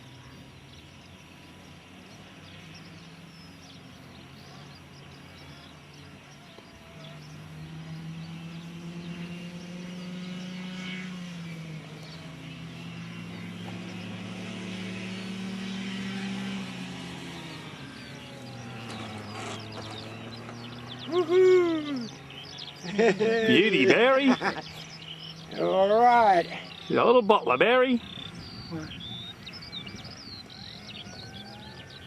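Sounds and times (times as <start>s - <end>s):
model plane propeller droning: 0.0s - 32.0s.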